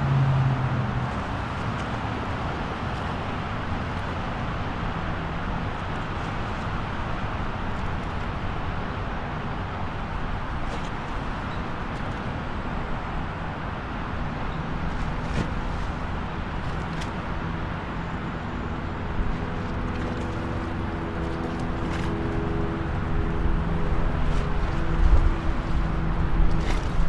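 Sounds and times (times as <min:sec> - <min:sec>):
highway traffic rumble: 0:00.0 - 0:27.0.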